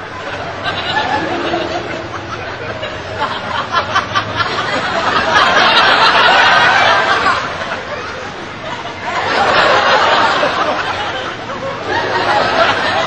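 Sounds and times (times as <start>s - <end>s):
crowd laughing: 0.0s - 13.0s.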